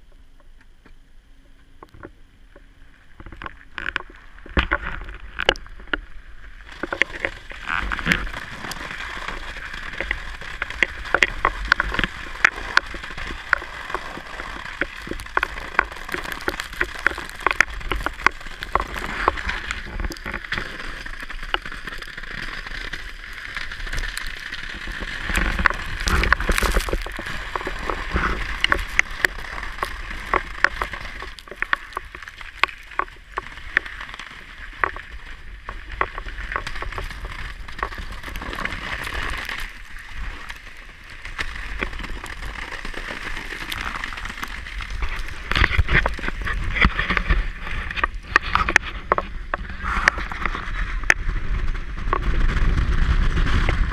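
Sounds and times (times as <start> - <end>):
ice crackling and clicking: 1.8 - 53.9.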